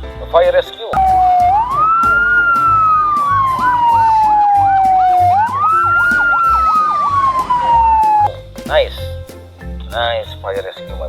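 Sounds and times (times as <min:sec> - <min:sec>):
music beat thumping: 0:00.9 - 0:11.0.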